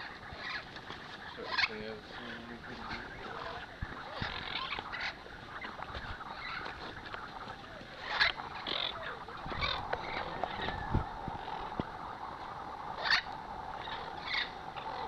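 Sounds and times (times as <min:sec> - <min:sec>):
parrots squawking and chattering: 0:00.0 - 0:15.0.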